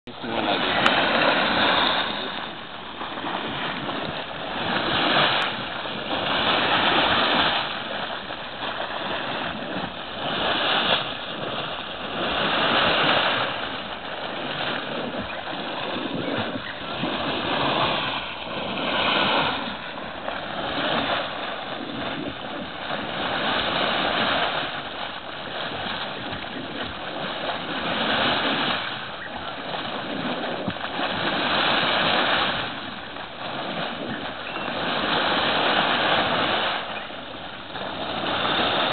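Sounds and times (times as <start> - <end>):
water splashing and gurgling: 0.0 - 38.9.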